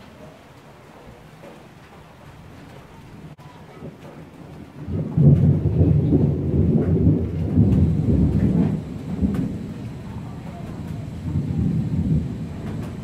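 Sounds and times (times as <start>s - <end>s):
steady rain: 0.0s - 13.0s
thunder rumbling: 1.4s - 13.0s.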